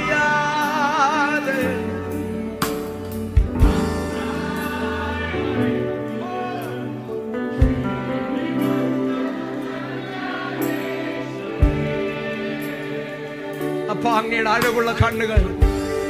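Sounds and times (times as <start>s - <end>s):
worship music sustained chords: 0.0s - 16.0s.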